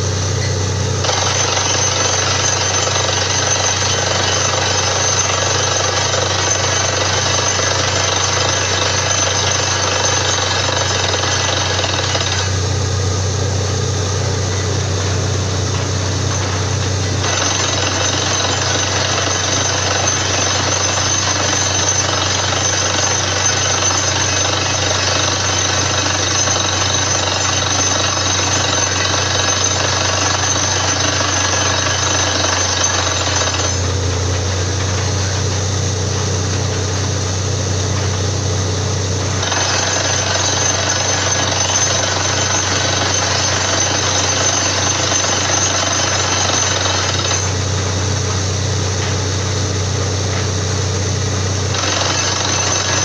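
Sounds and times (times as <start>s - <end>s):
drilling rig hammering clatter: 0.0s - 53.0s.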